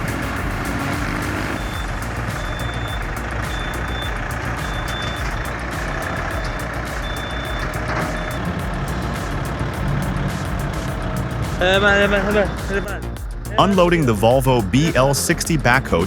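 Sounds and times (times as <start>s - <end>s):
reversing alarm beeping: 0.0s - 10.2s, 11.8s - 15.7s
diesel engine running: 0.0s - 16.0s.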